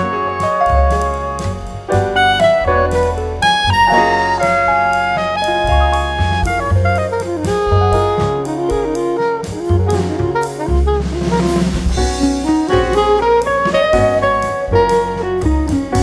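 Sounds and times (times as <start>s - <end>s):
drum kit beat: 0.0s - 16.0s
jazz melody with bass line: 0.0s - 16.0s.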